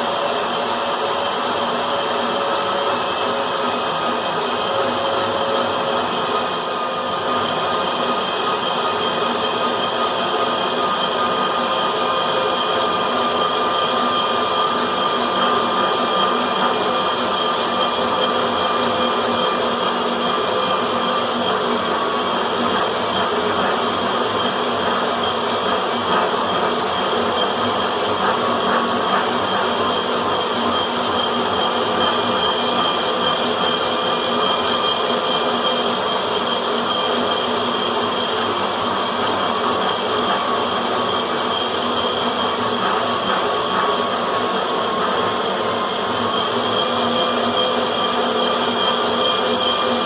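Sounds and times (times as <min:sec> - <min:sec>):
boring machine whine: 0:00.0 - 0:50.0.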